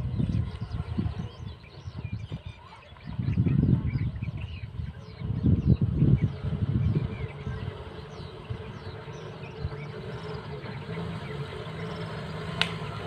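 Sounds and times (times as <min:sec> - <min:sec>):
birds chirping: 0:00.0 - 0:13.0
bus diesel engine climbing: 0:00.0 - 0:13.0.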